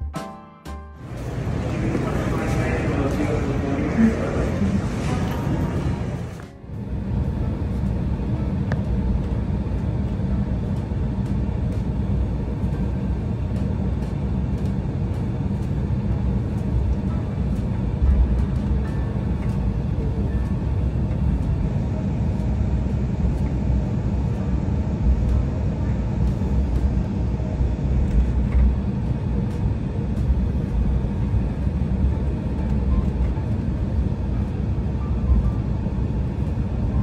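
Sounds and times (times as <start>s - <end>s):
airliner engines rumbling: 1.0s - 37.0s.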